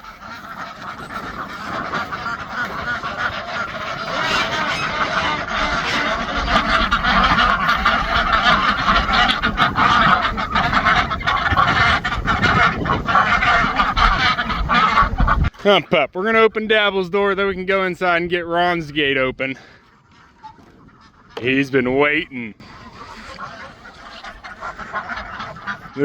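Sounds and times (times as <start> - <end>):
geese and ducks calling: 0.0 - 26.0.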